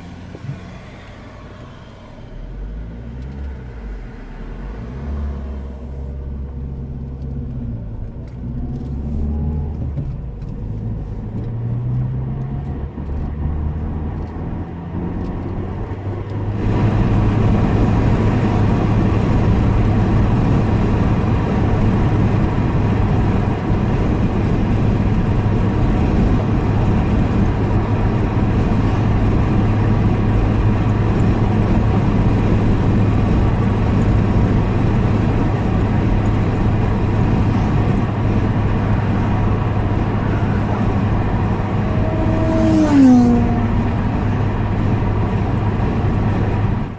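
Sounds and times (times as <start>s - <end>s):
car engine hum: 0.0s - 46.9s
constant low drone: 0.0s - 46.9s
road and wind noise: 0.0s - 46.9s.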